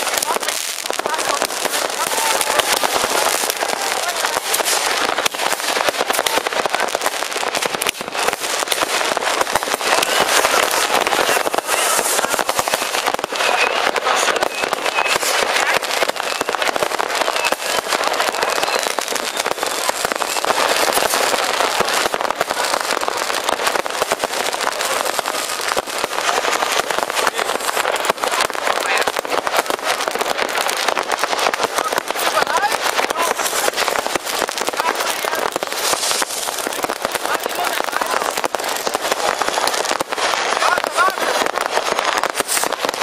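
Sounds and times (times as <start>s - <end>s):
fireworks crackling: 0.0s - 43.0s.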